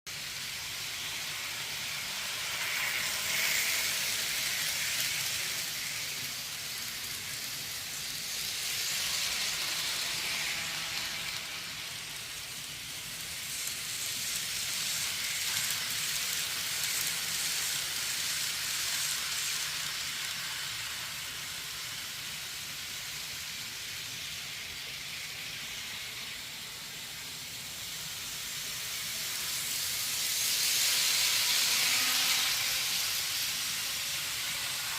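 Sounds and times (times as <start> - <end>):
model train running on track: 0.1 - 34.9.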